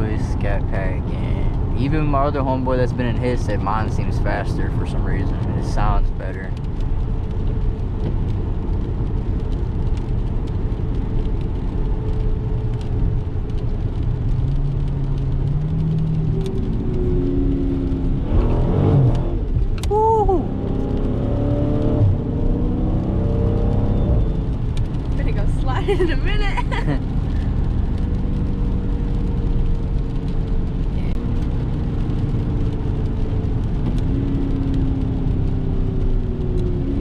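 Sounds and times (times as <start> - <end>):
car engine running: 0.0 - 37.0
road drone: 0.0 - 37.0.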